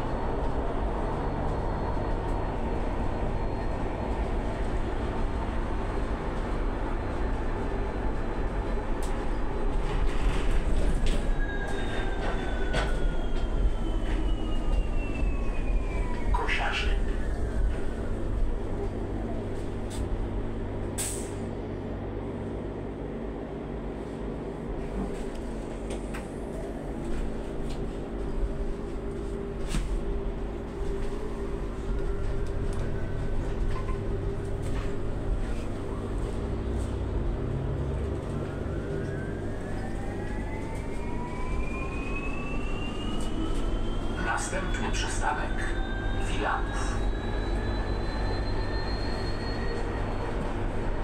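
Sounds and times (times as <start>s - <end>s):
bus interior low rumble: 0.0s - 51.0s.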